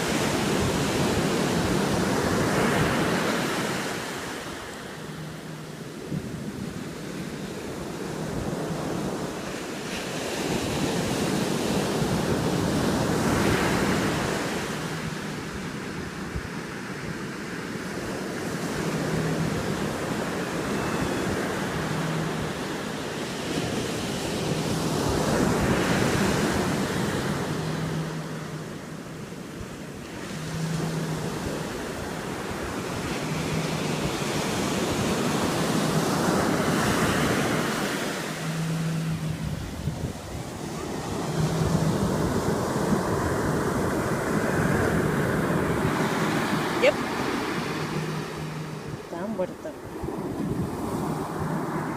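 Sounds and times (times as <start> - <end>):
waves breaking: 0.0 - 51.9
wind buffeting microphone: 0.0 - 51.9.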